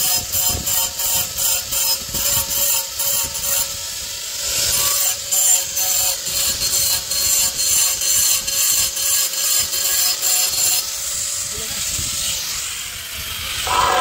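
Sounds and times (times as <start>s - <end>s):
electric grinder grinding stone: 0.0s - 14.0s.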